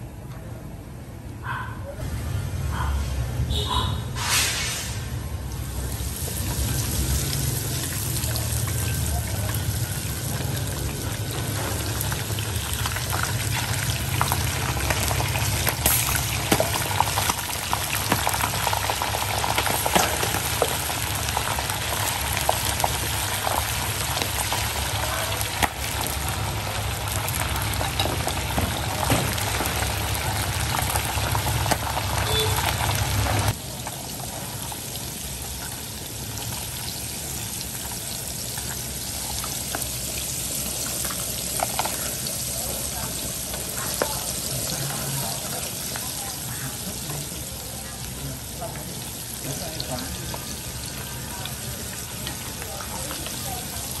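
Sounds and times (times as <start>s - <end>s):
deep-frying sizzle with pops: 3.5s - 54.0s.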